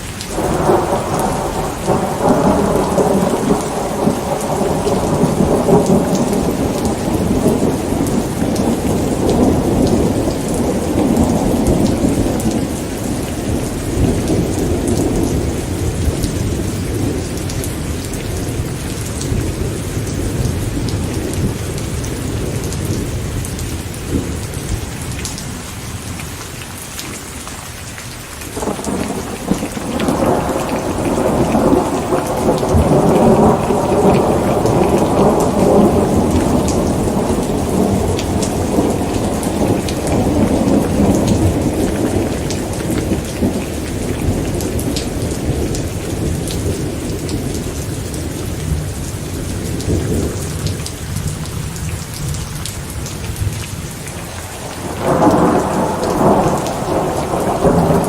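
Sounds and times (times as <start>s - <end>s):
steady rain falling: 0.0s - 58.0s
rolling thunder: 0.3s - 25.2s, 28.6s - 58.0s.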